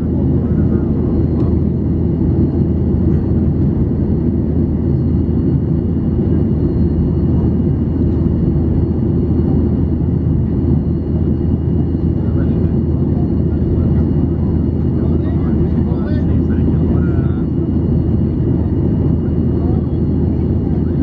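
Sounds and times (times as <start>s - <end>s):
airplane cabin low roar: 0.0s - 21.0s.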